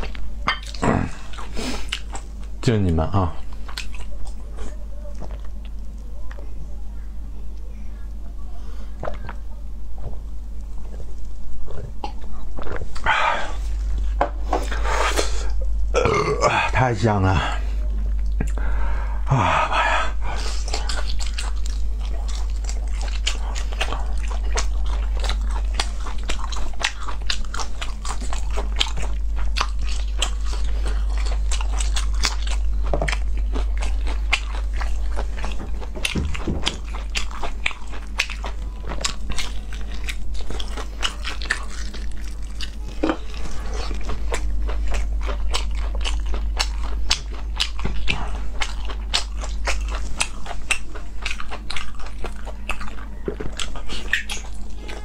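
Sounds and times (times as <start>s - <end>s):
close chewing and mouth clicks: 0.0s - 2.8s, 3.4s - 6.6s, 10.6s - 15.7s, 19.7s - 55.0s
steady low hum: 0.0s - 55.0s.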